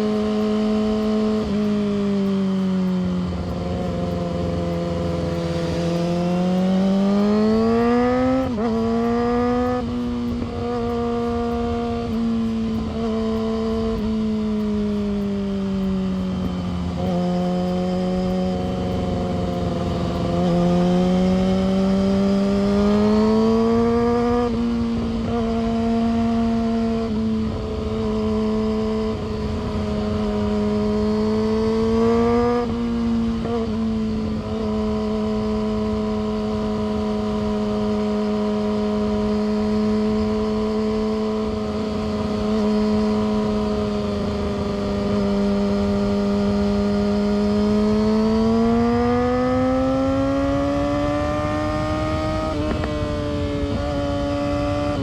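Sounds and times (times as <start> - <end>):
motorcycle engine shifting up: 0.2 - 55.0.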